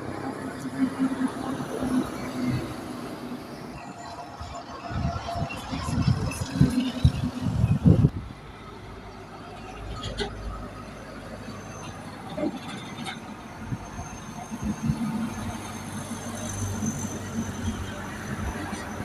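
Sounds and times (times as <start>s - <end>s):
heavy trucks on highway: 0.0s - 19.0s.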